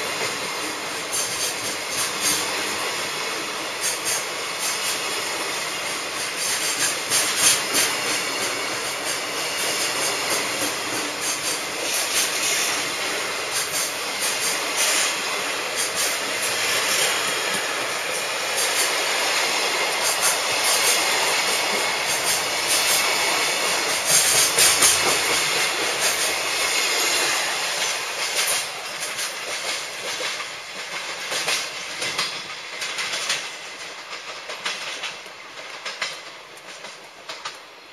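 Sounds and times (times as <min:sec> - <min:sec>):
train wheels clattering over rail joints: 0:00.0 - 0:37.8.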